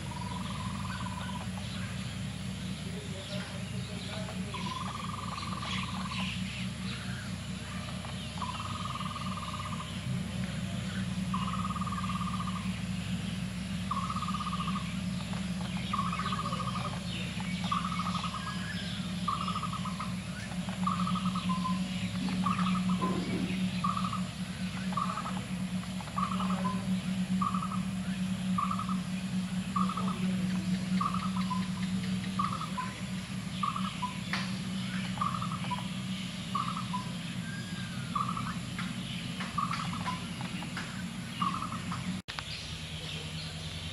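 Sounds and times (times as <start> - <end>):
bird trilled call: 0.0 - 43.9
small bird chirps: 0.0 - 43.9
steady low hum: 0.0 - 43.9.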